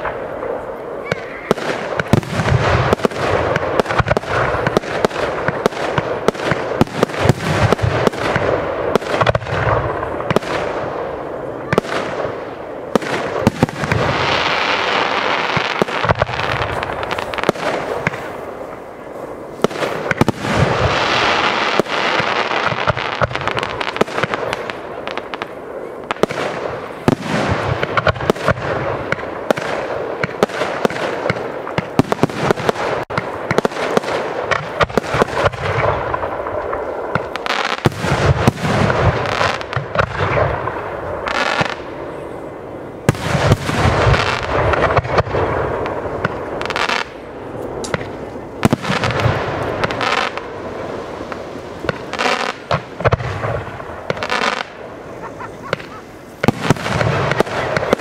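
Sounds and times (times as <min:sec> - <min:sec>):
continuous firework crackling: 0:00.0 - 0:58.0.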